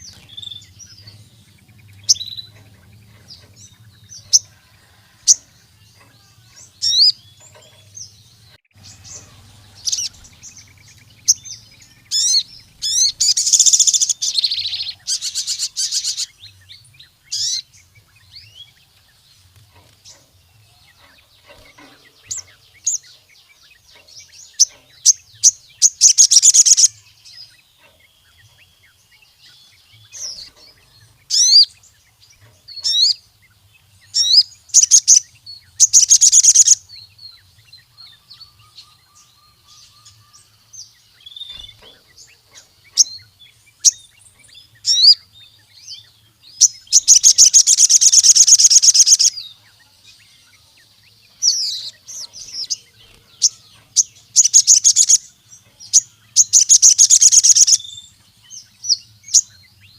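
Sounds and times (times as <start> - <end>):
bird singing chirps and trills: 0.0 - 59.9.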